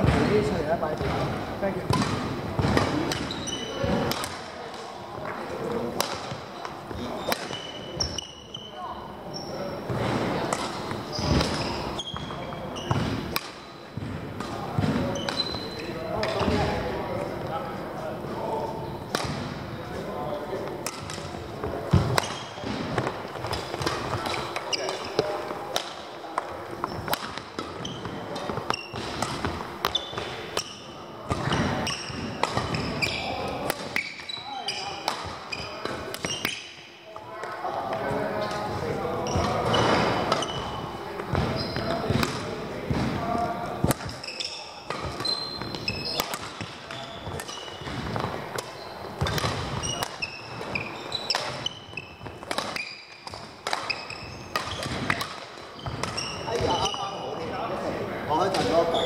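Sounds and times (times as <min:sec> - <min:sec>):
shoes squeaking on floor: 0:00.0 - 0:04.4, 0:05.2 - 0:59.0
rackets striking shuttlecocks: 0:00.0 - 0:08.2, 0:09.9 - 0:17.3, 0:19.0 - 0:19.6, 0:20.6 - 0:56.9.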